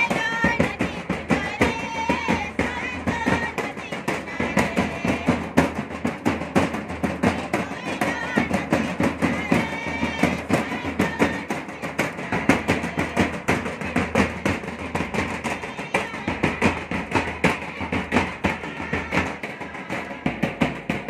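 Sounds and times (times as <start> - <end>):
drum beaten with stick: 0.0 - 21.0.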